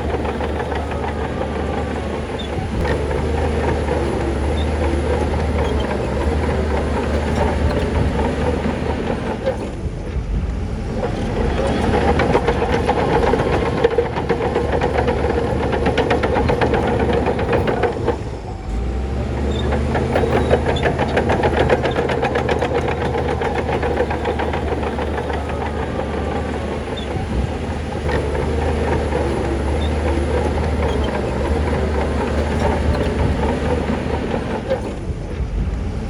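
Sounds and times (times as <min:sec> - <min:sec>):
fast metallic rattling clatter: 0:00.0 - 0:09.9, 0:10.8 - 0:18.5, 0:19.2 - 0:35.1
heavy diesel machinery droning: 0:00.0 - 0:36.0.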